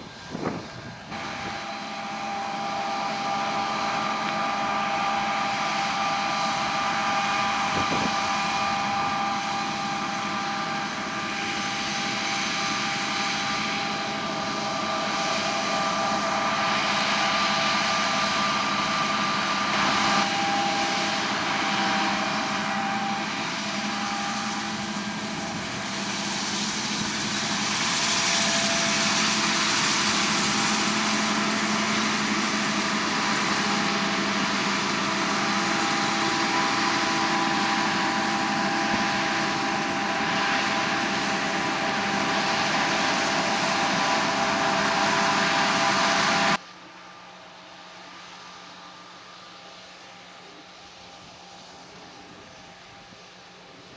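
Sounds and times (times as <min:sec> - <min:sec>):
harvest machinery running: 0:00.0 - 0:53.9.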